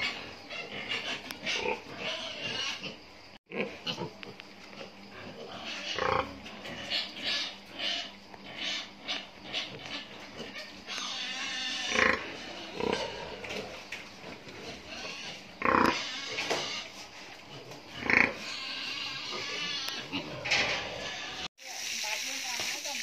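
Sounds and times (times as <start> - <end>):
pigs grunting: 0.0 - 21.5.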